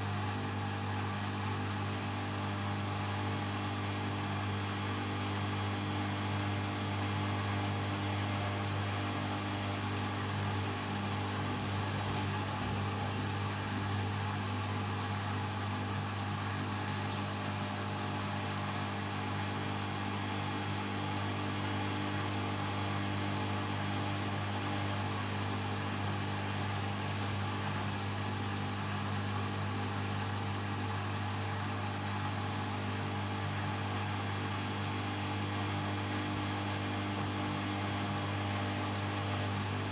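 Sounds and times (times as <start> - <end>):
washing machine motor hum: 2.5 - 39.9.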